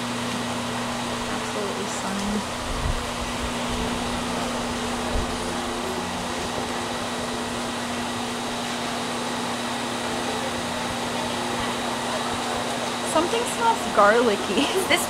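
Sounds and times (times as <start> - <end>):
fan whirring: 0.0 - 15.0
low hum: 0.0 - 15.0.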